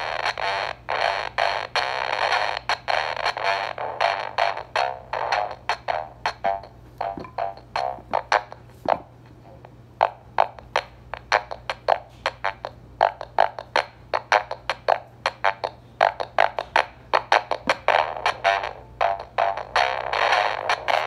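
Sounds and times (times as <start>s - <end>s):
distorted drum machine beat: 0.0s - 21.0s
steady low hum: 0.0s - 21.0s.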